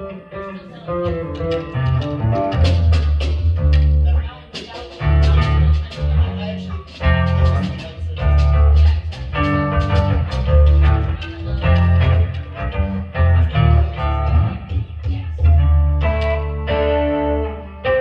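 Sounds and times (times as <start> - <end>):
heavy bass notes: 1.1 - 4.3, 5.0 - 18.0.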